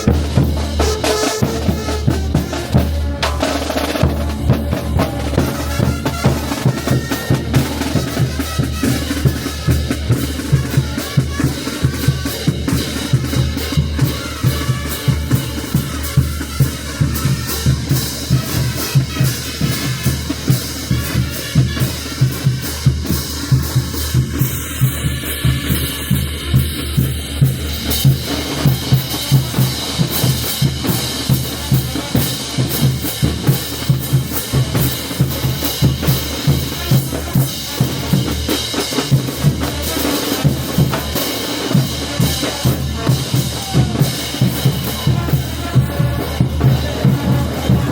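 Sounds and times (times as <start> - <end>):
band playing: 0.0 - 47.9
bass drum and snare beat: 0.0 - 47.9.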